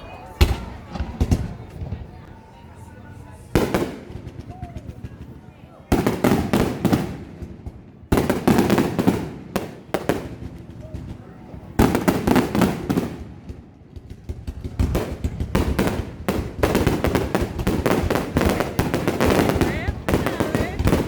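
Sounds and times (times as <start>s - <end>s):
fireworks crackling and popping: 0.4s - 2.5s, 3.5s - 21.0s.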